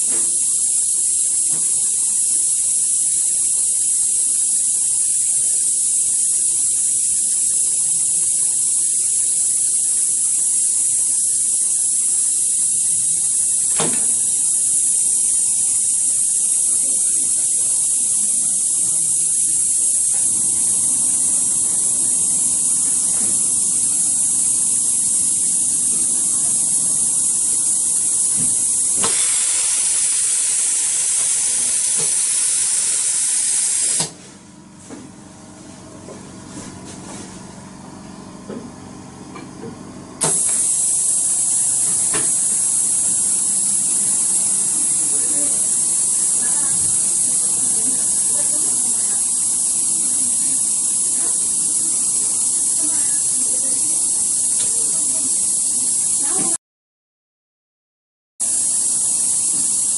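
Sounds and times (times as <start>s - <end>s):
bonding machine hissing: 0.0s - 34.2s, 40.2s - 56.6s, 58.4s - 59.9s.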